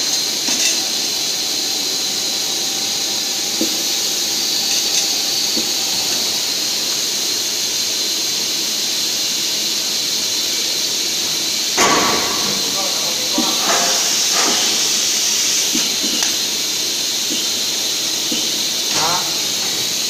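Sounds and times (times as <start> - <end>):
factory machinery hiss and whine: 0.0 - 20.0.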